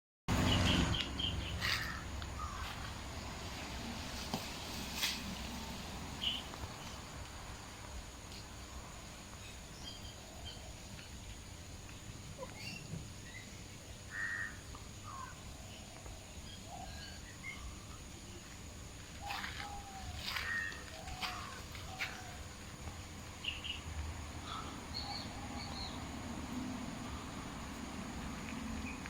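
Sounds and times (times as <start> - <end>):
outdoor background noise: 0.3 - 29.0.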